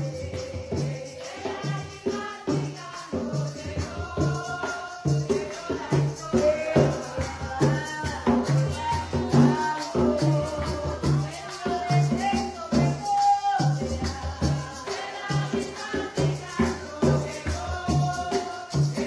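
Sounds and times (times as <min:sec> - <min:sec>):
hand drum beating: 0:00.0 - 0:19.0
person singing: 0:00.0 - 0:19.0
shaken rattles: 0:00.0 - 0:19.0.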